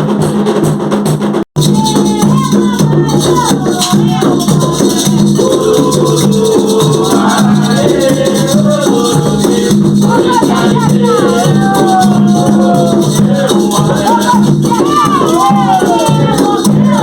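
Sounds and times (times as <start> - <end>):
shaken rattle: 1.6 - 17.0
voices chanting a melody: 1.6 - 17.0.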